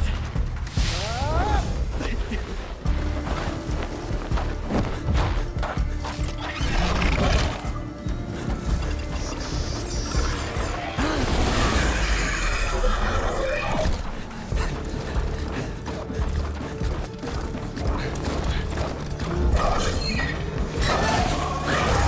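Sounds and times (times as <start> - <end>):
cinematic background music: 0.0 - 22.0.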